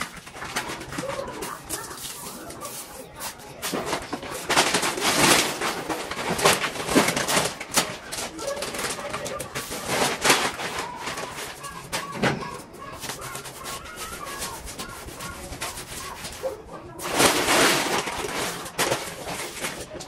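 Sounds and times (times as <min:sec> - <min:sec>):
wallpaper rustling and crinkling: 0:00.0 - 0:20.0.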